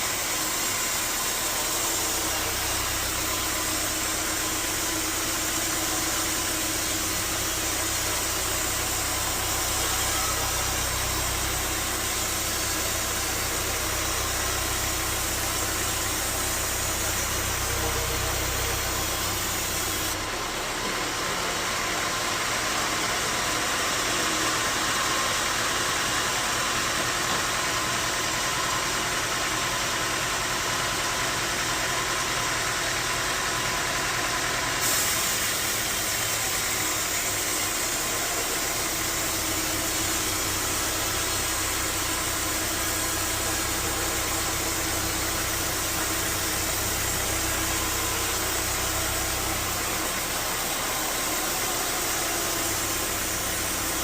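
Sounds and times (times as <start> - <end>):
bandsaw sawmill machinery running: 0.0 - 54.0.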